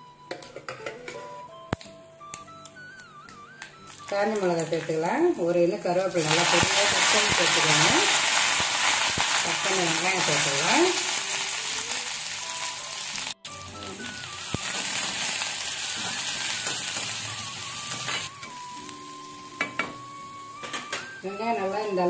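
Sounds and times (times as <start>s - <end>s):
onions sizzling in hot oil: 4.1s - 22.0s.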